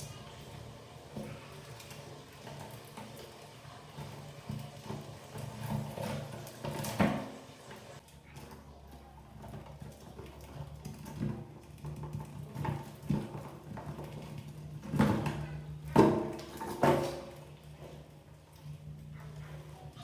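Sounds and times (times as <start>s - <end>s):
mice scrabbling and pattering: 0.0s - 20.0s.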